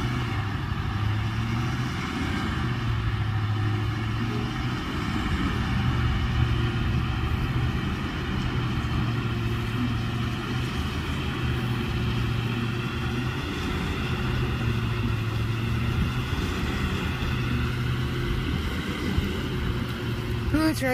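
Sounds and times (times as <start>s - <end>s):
heavy diesel engines under load: 0.0s - 20.9s.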